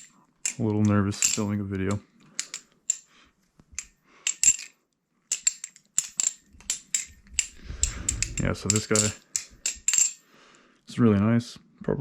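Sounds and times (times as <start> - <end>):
metallic clicks of knife handles: 0.0 - 3.1, 3.7 - 10.2.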